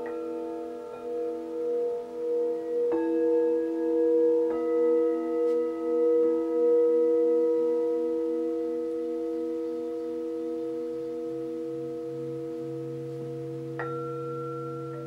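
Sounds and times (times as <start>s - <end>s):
bowl struck: 0.0s - 15.0s
singing bowls ringing: 0.0s - 15.0s.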